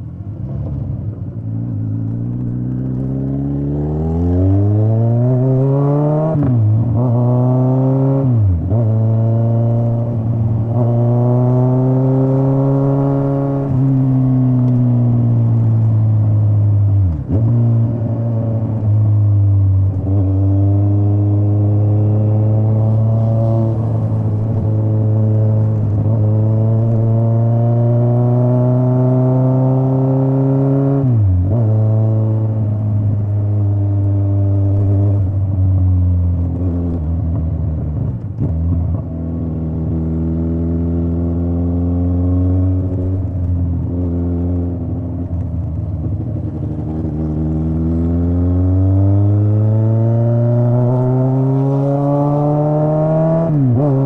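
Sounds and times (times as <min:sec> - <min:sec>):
motorcycle engine revving: 0:01.7 - 0:54.0.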